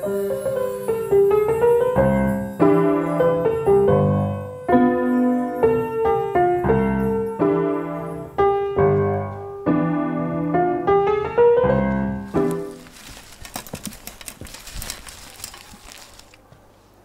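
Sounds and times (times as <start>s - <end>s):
slow piano melody: 0.0s - 16.6s.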